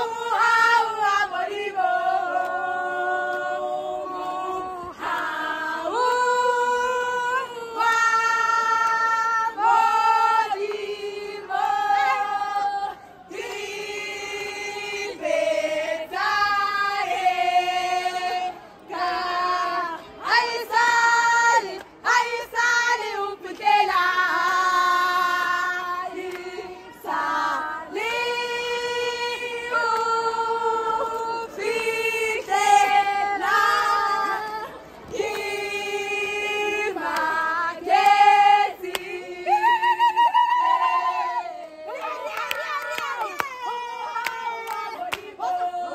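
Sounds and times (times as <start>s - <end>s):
women singing in unison: 0.0s - 45.9s.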